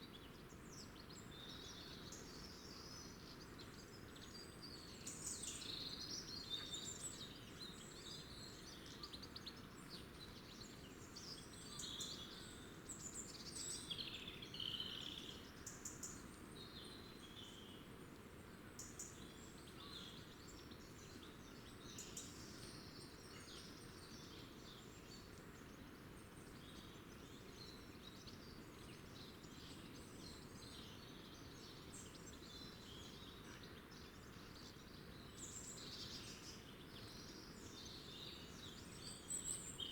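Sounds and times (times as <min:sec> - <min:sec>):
faint low background noise: 0:00.0 - 0:39.9
songbirds chirping: 0:00.0 - 0:39.9.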